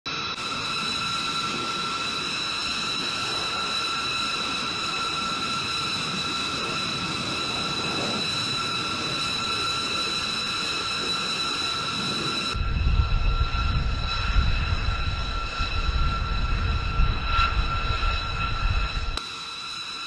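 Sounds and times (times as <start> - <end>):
constant rushing noise: 0.1 - 20.0
jet engines idling whine: 0.1 - 20.0.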